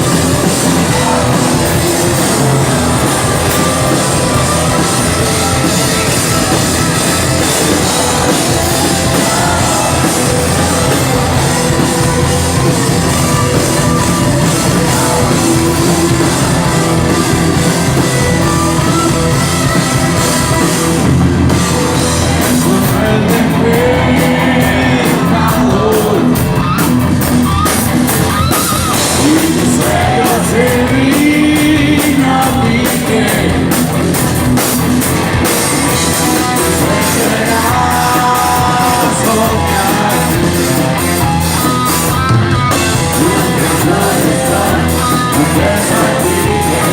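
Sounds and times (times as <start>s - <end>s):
person singing: 0.0s - 20.6s, 22.0s - 26.8s, 28.9s - 34.0s, 35.9s - 41.2s, 42.7s - 46.9s
rock band playing: 0.0s - 46.9s.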